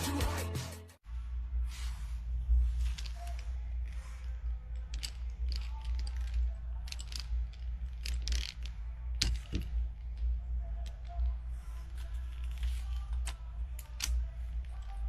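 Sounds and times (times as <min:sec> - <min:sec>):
steady low hum: 0:01.0 - 0:15.0.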